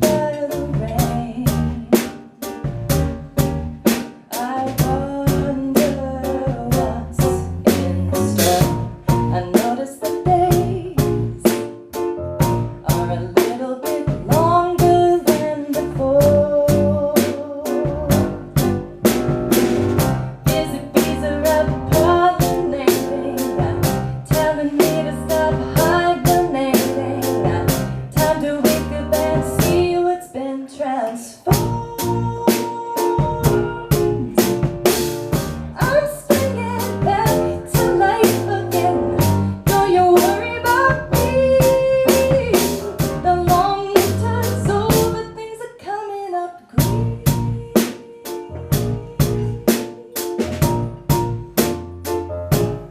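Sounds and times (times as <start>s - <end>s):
live song with steady beat: 0.0s - 30.3s, 31.0s - 45.7s, 46.8s - 52.9s.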